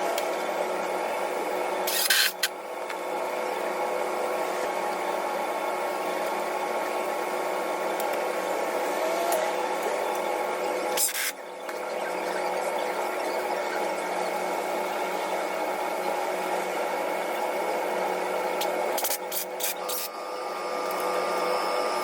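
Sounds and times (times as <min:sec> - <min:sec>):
motor whirring hum: 0:01.8 - 0:22.0.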